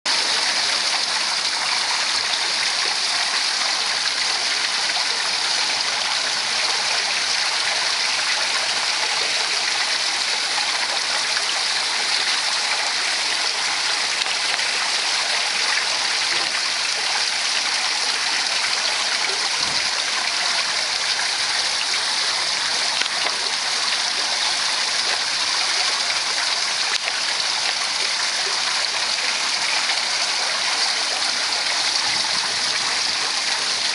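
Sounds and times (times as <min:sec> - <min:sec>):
waterfall rushing and splashing: 0:00.1 - 0:33.9.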